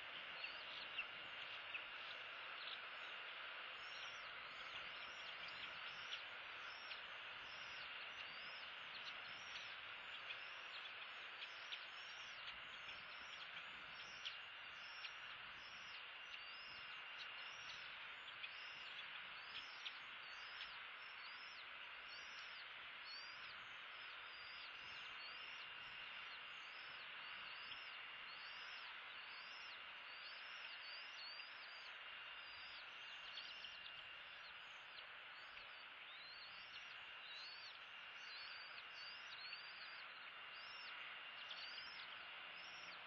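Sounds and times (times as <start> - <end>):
faint high whine: 0.0 - 43.0.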